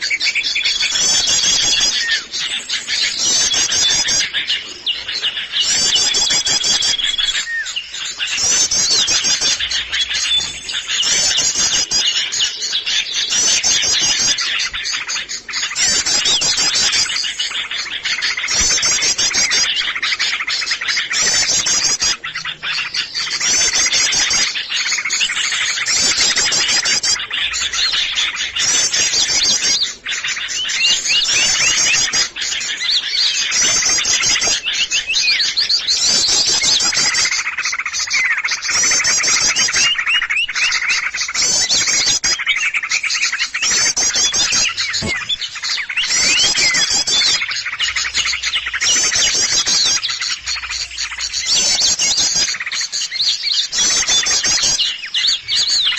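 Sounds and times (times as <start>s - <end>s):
songbirds chirping and twittering: 0.0s - 55.9s.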